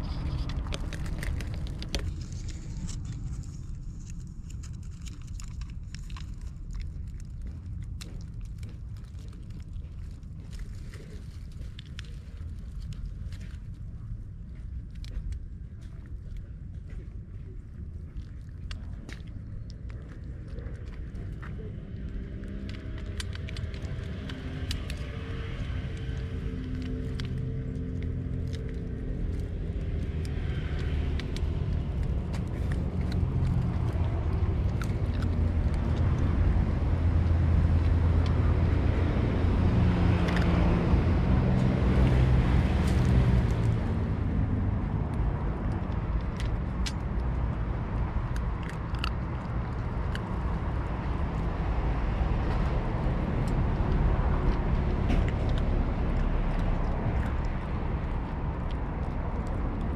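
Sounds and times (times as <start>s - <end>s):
cat crunching dry kibble: 0.0s - 59.9s
low rumble of traffic: 0.0s - 59.9s.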